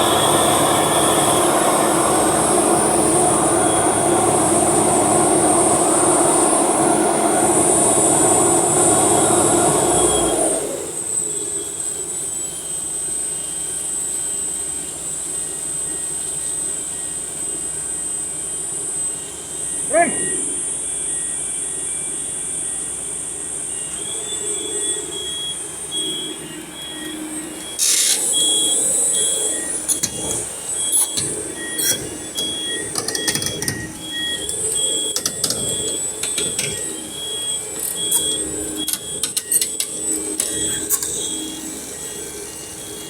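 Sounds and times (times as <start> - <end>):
machinery running: 0.0 - 43.0.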